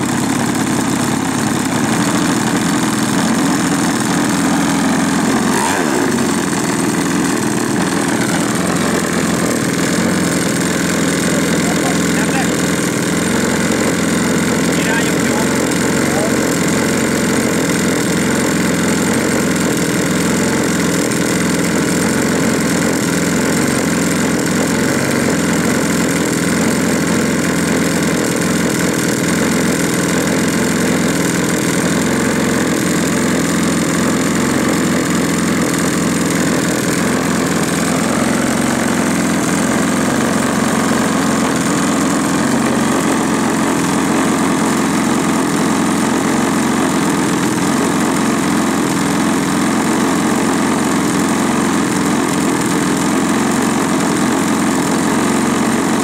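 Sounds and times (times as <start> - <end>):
model aeroplane engine idling: 0.0 - 56.0.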